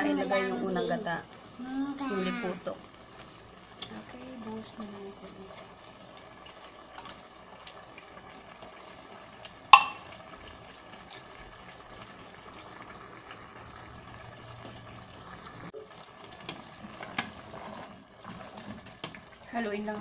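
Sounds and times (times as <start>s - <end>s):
stew bubbling: 0.0s - 20.0s.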